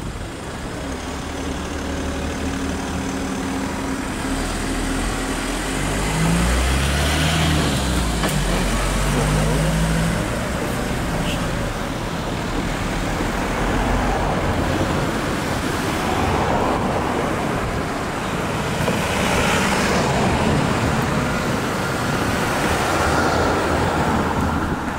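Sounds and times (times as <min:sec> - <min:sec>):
cars and vans passing: 0:00.0 - 0:24.9.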